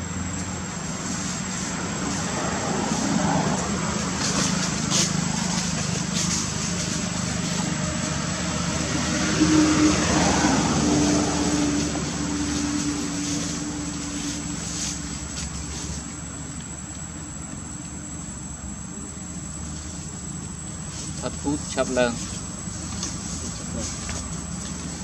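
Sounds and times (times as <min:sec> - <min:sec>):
distant motor engine drone: 0:00.0 - 0:25.0.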